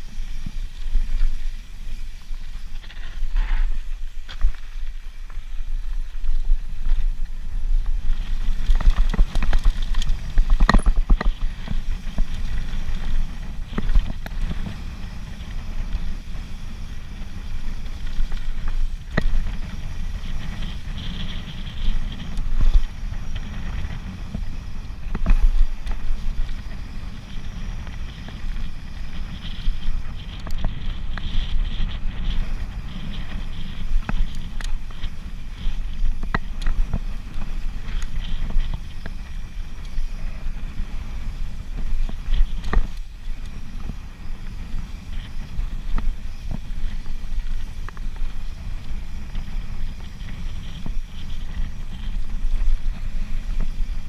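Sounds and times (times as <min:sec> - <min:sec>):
bike rattling over bumps: 0:00.0 - 0:54.0
tyres running over dirt: 0:00.0 - 0:54.0
wind buffeting microphone: 0:00.0 - 0:54.0.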